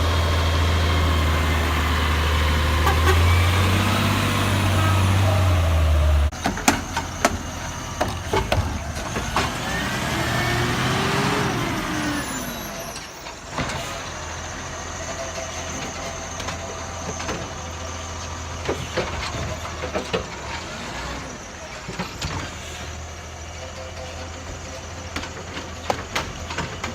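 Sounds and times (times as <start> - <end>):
garbage truck engine running: 0.0 - 26.9.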